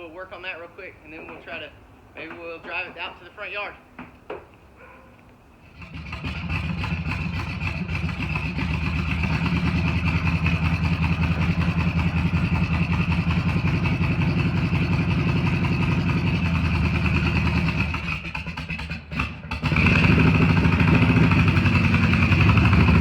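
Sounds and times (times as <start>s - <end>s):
car engine running steadily: 4.0s - 23.0s.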